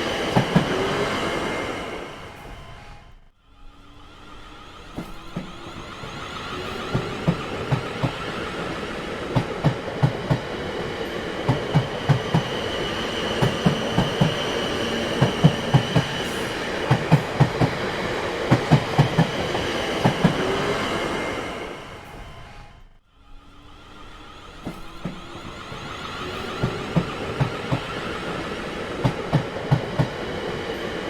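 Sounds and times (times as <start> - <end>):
train wheels clattering: 0.0 - 2.8, 4.8 - 22.5, 24.5 - 31.0
rolling train rumble: 0.0 - 31.0.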